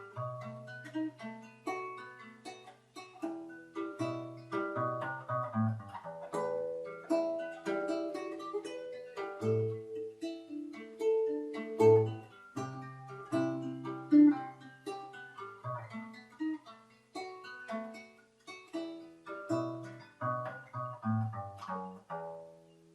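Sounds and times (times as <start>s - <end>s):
guitar playing instrumental melody: 0.0s - 22.9s.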